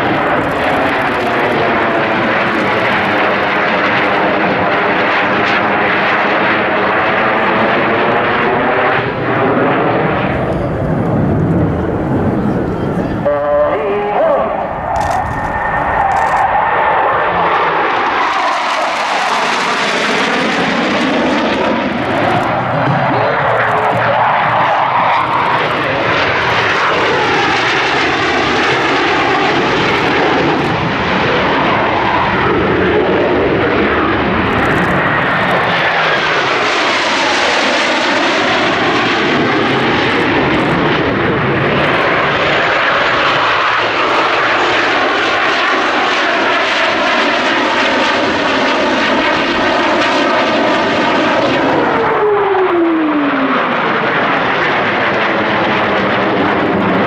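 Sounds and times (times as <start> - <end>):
jet engines roaring overhead: 0.0 - 57.0
jet whine falling in pitch: 0.0 - 57.0.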